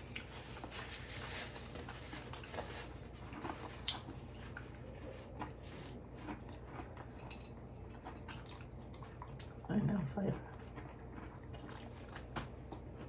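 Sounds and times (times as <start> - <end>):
chewing cookies: 0.0 - 13.0
low room hum: 0.0 - 13.0.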